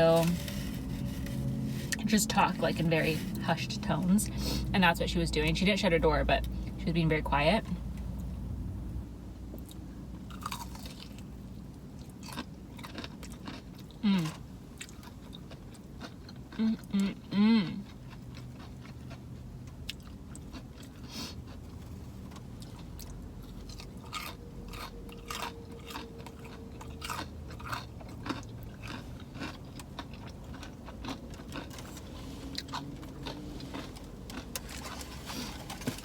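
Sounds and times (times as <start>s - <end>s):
person chewing food: 0.0s - 3.5s, 9.5s - 36.0s.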